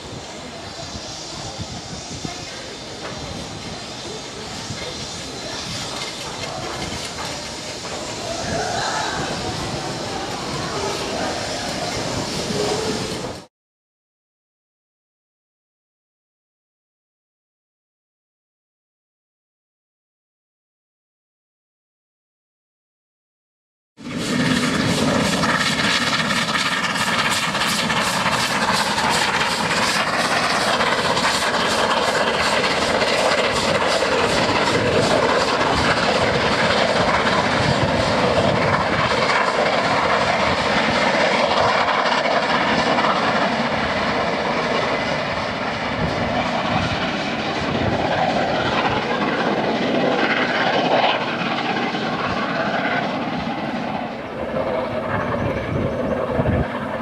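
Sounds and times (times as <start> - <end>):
steam locomotive passing: 0.0 - 13.5, 24.0 - 57.0.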